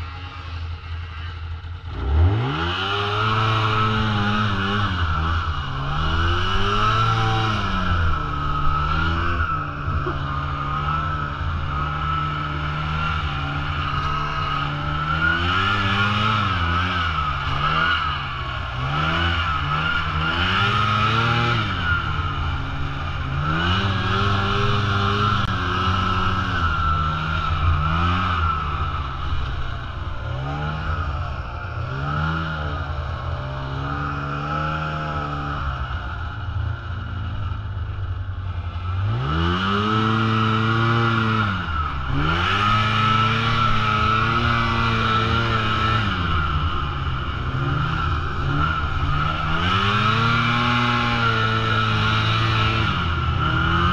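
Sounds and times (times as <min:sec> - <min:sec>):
snowmobile engine revving: 0:00.0 - 0:53.9
steady high whine: 0:03.7 - 0:39.3, 0:41.4 - 0:53.9.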